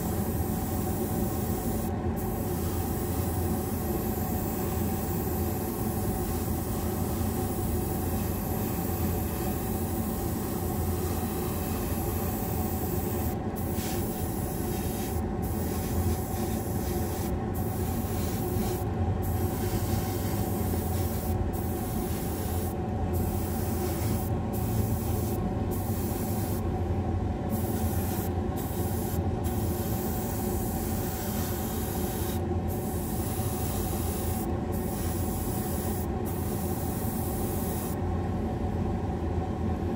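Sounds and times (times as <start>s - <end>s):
airbrush hissing: 0.6s - 26.6s, 27.5s - 38.0s.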